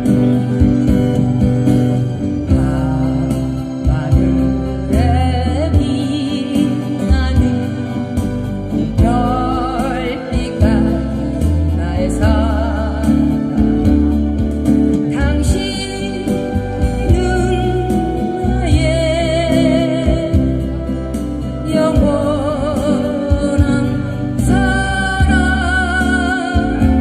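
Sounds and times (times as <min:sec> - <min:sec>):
acoustic guitars playing: 0:00.0 - 0:27.0
person singing with vibrato: 0:00.0 - 0:27.0.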